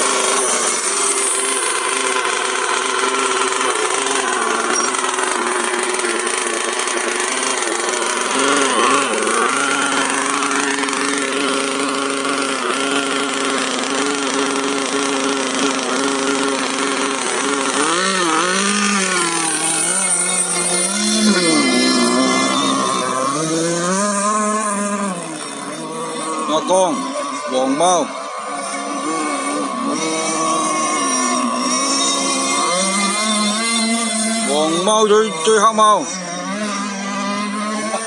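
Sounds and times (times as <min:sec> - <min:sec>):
model boat engines buzzing: 0:00.0 - 0:38.0.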